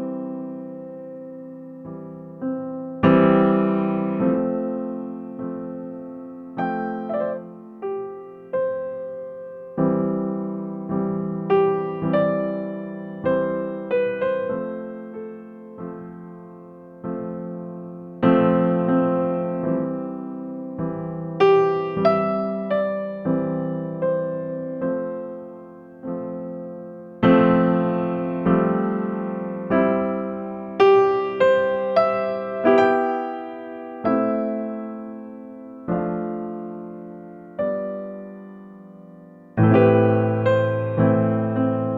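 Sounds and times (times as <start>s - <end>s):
slow electric piano music: 0.0s - 41.9s.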